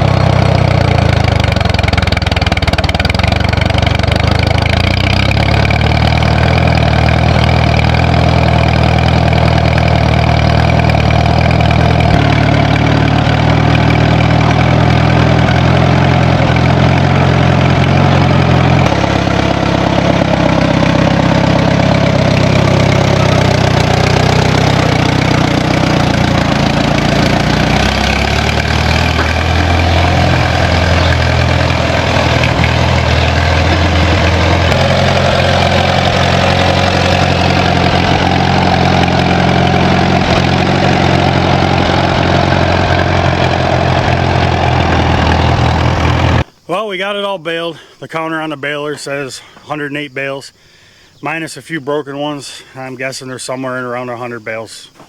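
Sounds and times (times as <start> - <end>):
tractor engine running: 0.0 - 50.2.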